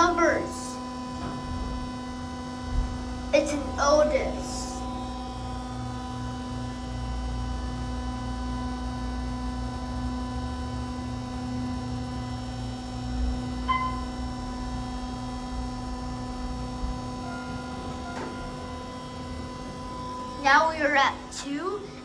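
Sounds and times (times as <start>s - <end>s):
hydraulic elevator humming: 0.0s - 22.0s.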